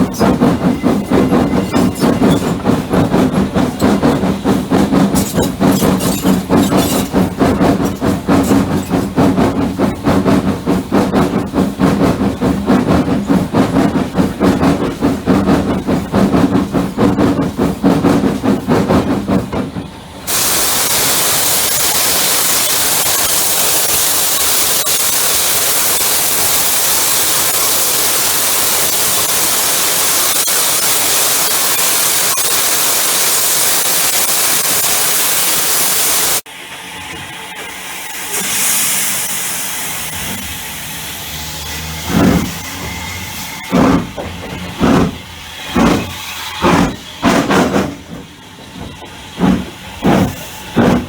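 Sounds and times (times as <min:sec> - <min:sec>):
steam hissing: 0:00.0 - 0:36.5, 0:37.6 - 0:51.0
steam locomotive chuffing: 0:00.0 - 0:51.0.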